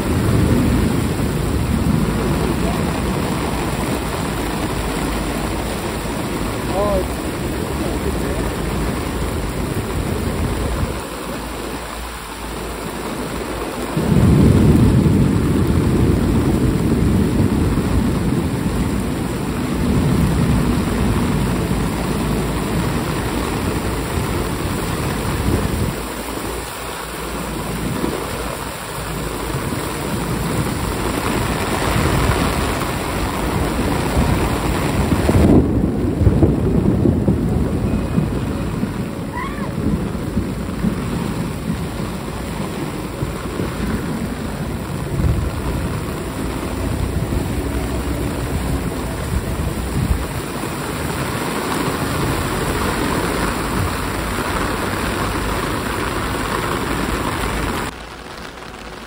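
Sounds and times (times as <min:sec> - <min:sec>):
deep rumble: 0:00.0 - 0:59.0
heavy rain pouring: 0:00.0 - 0:59.0.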